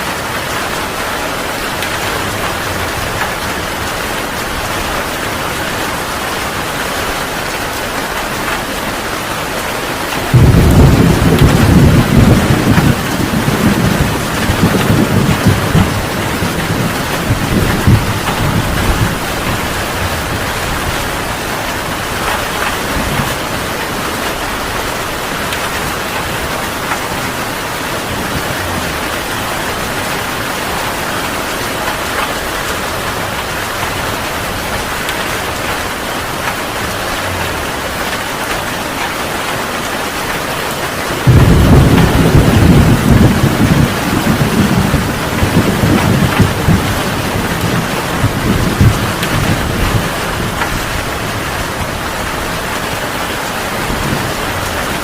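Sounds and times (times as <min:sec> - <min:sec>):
thunder rumbling: 0:00.0 - 0:40.4, 0:41.0 - 0:55.0
heavy rain falling: 0:00.0 - 0:55.0.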